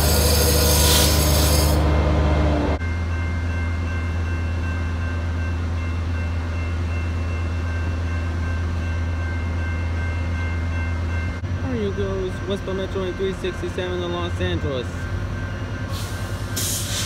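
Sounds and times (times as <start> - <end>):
train low hum: 0.0 - 17.0.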